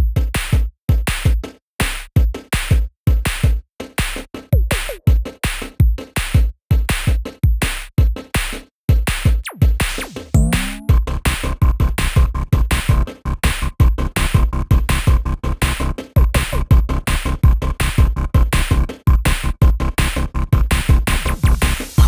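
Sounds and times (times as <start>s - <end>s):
electronic music with drum-machine beat: 0.0s - 22.0s.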